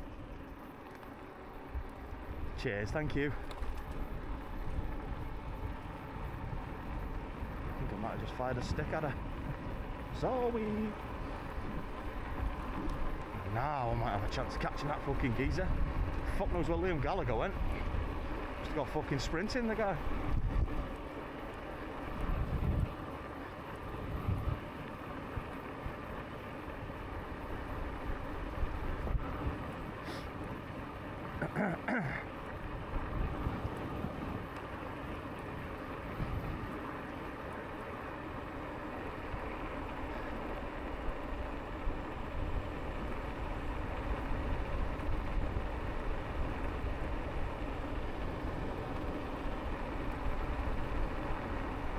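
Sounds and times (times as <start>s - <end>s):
e-bike rumble: 0.0s - 51.9s
tyre noise on path: 0.0s - 51.9s
wind buffeting microphone: 1.7s - 26.2s, 26.8s - 31.5s, 32.3s - 51.9s.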